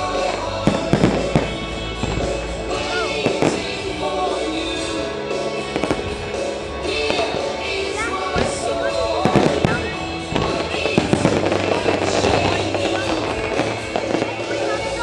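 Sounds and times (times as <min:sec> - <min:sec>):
fireworks bursting: 0:00.0 - 0:15.0
music: 0:00.0 - 0:15.0.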